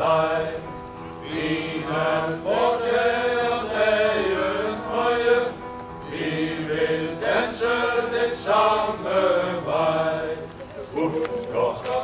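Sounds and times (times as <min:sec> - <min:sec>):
electric keyboard: 0:00.0 - 0:12.0
men's choir singing: 0:00.0 - 0:12.0.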